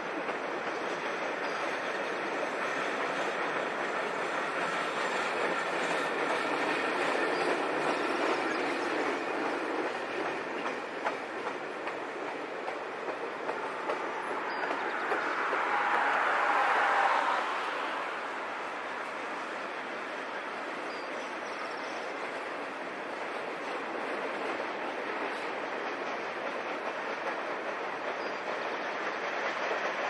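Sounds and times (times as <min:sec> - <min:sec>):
clickety-clack over rail joints: 0:00.0 - 0:30.0
train wheel squeal: 0:00.0 - 0:30.0
train wheels rumbling on rails: 0:00.0 - 0:30.0.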